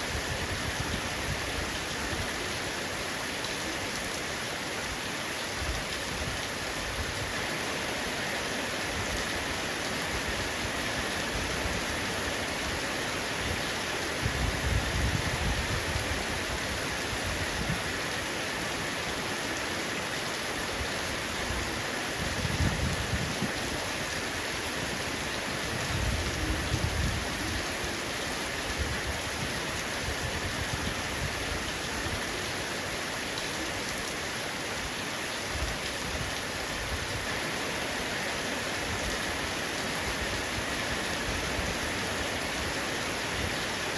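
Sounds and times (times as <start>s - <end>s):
heavy rain on a roof: 0.0s - 43.9s.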